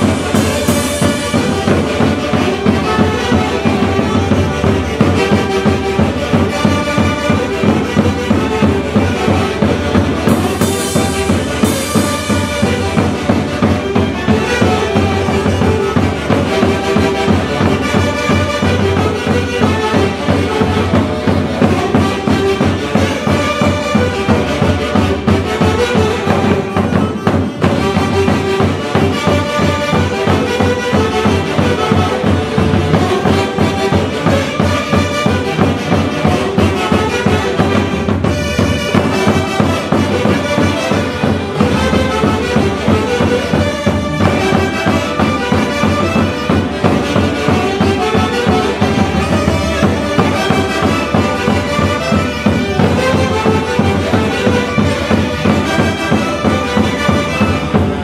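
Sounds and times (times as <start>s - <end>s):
live band with reedy wind instruments: 0.0s - 58.0s.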